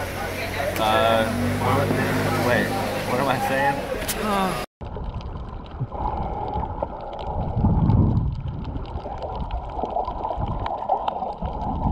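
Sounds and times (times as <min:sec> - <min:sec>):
underwater rushing and gurgling: 0:00.0 - 0:11.9.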